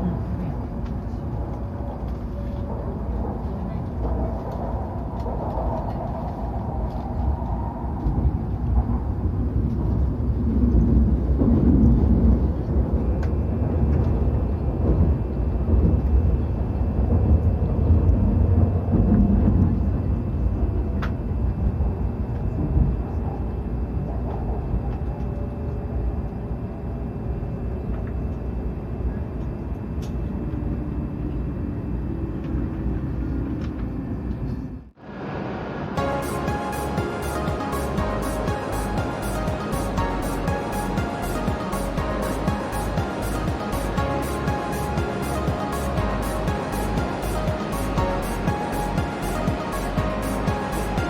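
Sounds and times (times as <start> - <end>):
train running with low rumble: 0.0 - 51.0.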